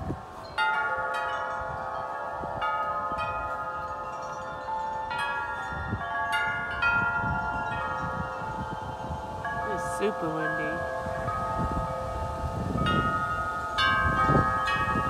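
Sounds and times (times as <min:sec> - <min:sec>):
low rumble of wind: 0:00.0 - 0:15.0
wind chimes ringing: 0:00.0 - 0:15.0.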